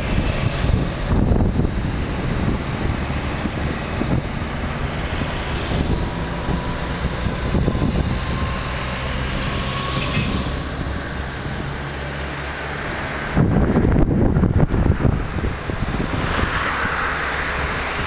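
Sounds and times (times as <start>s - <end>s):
rumble of passing traffic: 0.0s - 18.0s.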